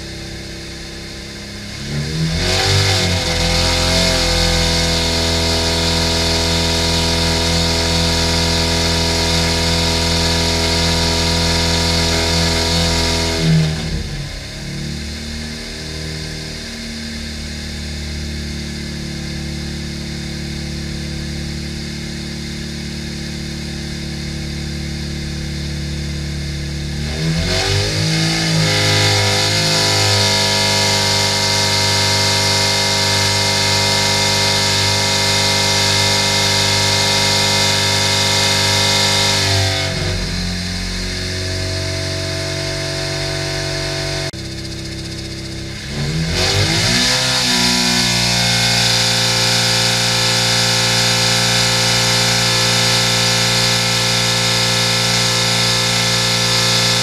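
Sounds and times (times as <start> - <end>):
engine running on dyno: 0.0 - 57.0.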